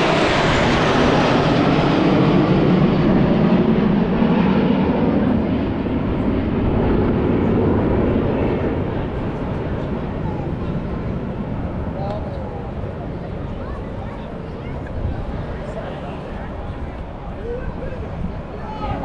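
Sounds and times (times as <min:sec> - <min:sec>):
airplane passing overhead: 0:00.0 - 0:19.0.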